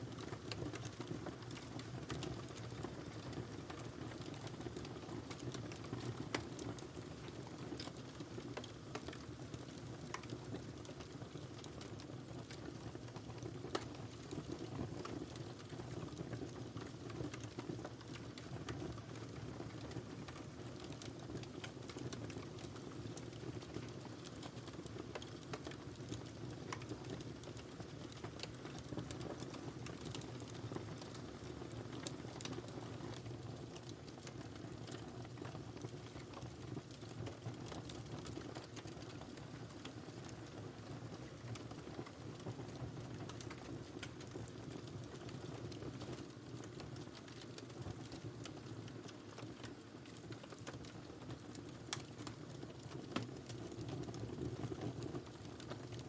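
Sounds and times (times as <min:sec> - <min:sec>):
fire crackling: 0:00.1 - 0:56.0.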